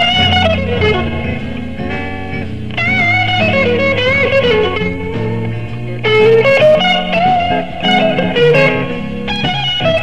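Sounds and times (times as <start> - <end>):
drums: 0.0 - 10.0
electric guitar lead: 0.0 - 10.0
walking bass: 0.0 - 10.0.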